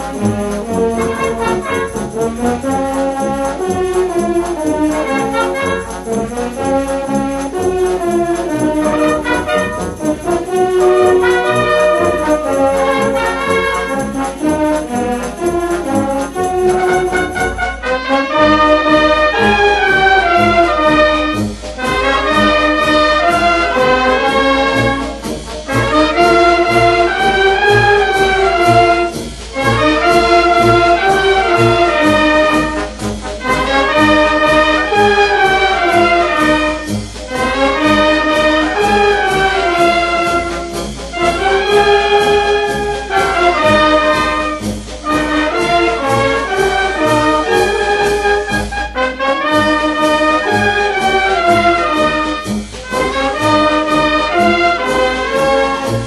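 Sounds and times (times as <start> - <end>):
brass-led wind band playing: 0.0 - 56.0.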